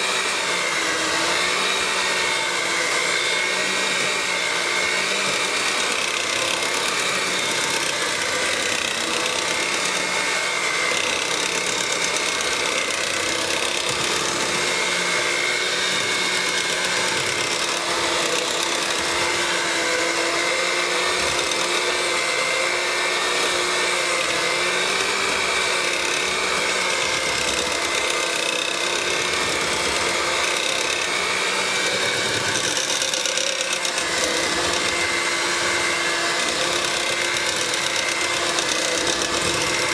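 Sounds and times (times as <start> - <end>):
electric mixer motor whine: 0.0 - 39.9.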